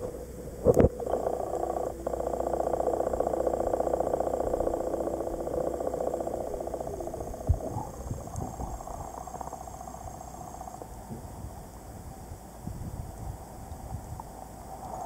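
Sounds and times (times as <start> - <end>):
pulsing underwater buzz: 0.0 - 11.8, 13.9 - 15.0.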